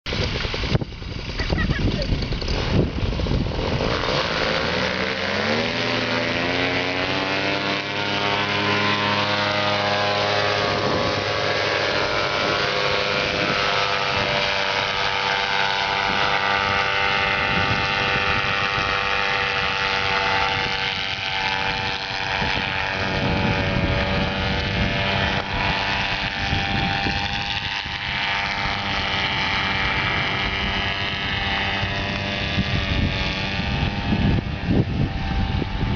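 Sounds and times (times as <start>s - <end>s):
wind buffeting microphone: 0.1s - 35.9s
engine revving at high speed: 0.2s - 35.9s.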